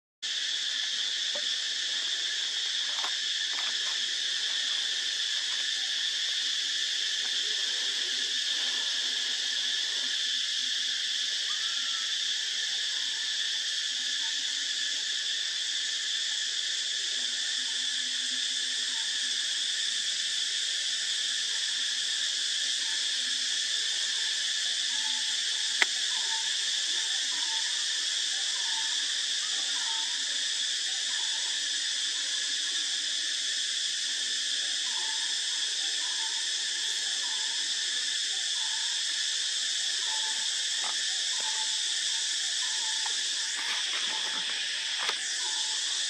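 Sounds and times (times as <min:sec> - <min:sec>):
high-pitched insect chorus: 0:00.2 - 0:46.0.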